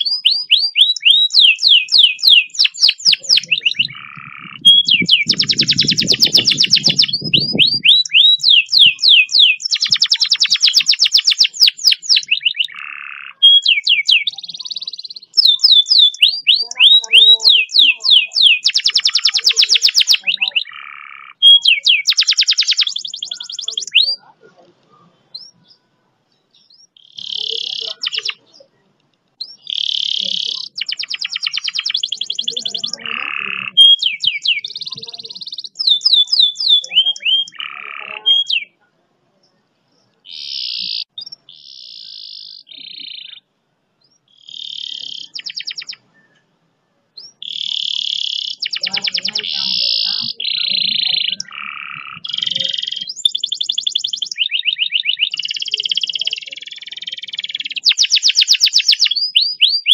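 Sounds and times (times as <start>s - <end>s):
canary singing trills: 0.0s - 46.6s, 47.2s - 59.9s.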